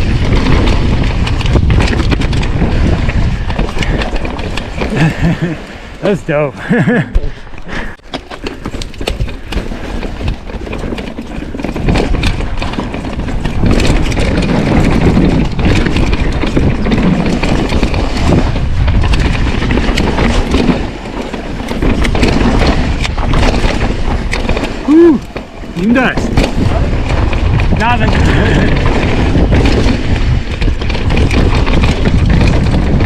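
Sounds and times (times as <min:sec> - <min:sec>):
scattered clicks and knocks: 0:00.0 - 0:05.6, 0:07.9 - 0:33.0.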